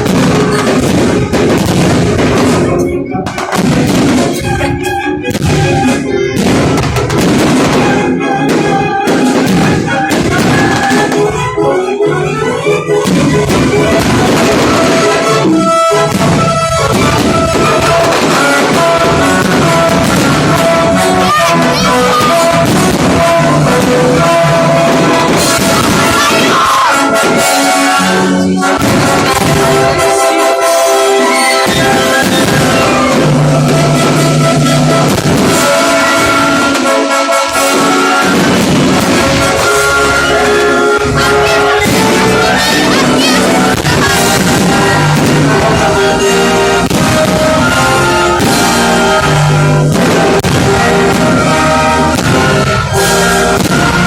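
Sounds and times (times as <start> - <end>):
fireworks bangs: 0.0 - 54.0
loud music: 0.0 - 54.0.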